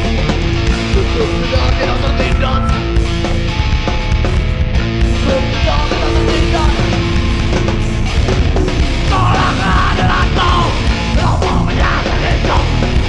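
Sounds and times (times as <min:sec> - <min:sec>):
bass guitar: 0:00.0 - 0:13.0
distorted electric guitars: 0:00.0 - 0:13.0
drums: 0:00.0 - 0:13.0.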